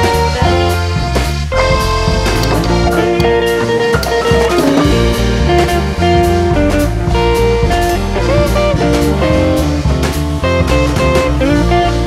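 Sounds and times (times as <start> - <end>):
bass: 0.0 - 12.0
bluesy guitar melody: 0.0 - 12.0
steady beat: 1.2 - 11.9.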